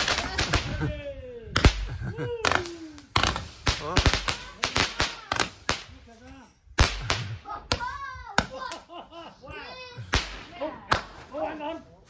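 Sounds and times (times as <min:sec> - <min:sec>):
firework cracks and pops: 0:00.0 - 0:08.9, 0:10.0 - 0:11.6.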